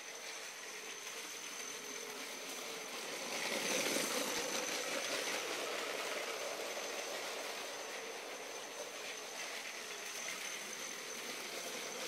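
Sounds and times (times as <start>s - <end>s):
toy train motor and wheels: 0.0s - 12.0s.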